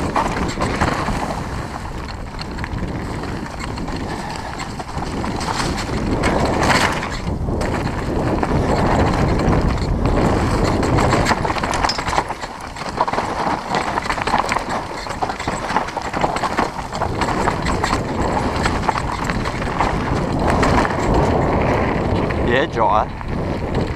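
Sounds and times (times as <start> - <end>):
bike clattering over bumps: 0.0 - 23.9
tyres rolling over dirt: 0.0 - 23.9
wind buffeting microphone: 0.0 - 23.9.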